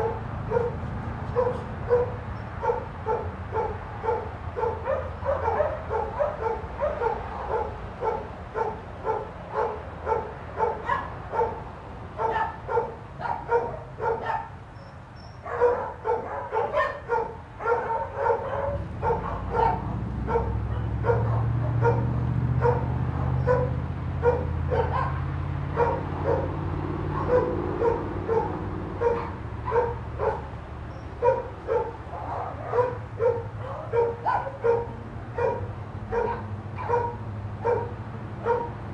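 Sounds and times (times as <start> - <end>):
dog barking: 0.0 - 14.6, 15.4 - 38.8.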